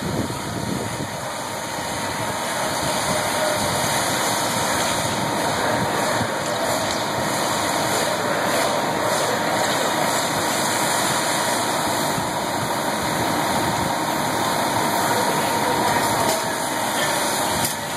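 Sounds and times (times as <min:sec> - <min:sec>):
fire truck engine running: 0:00.0 - 0:17.9.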